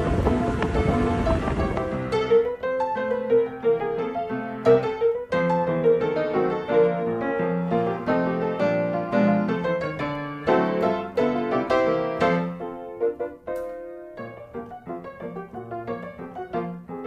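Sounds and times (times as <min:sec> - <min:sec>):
light piano tune: 0:00.0 - 0:17.0.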